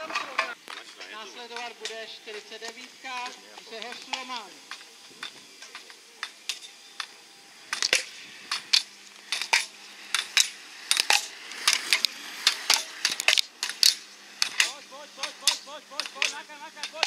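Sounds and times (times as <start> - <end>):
skates knocking plastic slalom poles: 0.0 - 17.0.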